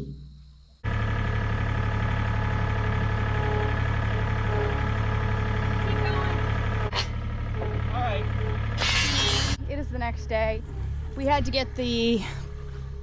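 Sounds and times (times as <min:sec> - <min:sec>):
vehicle engine running: 0:00.8 - 0:13.0.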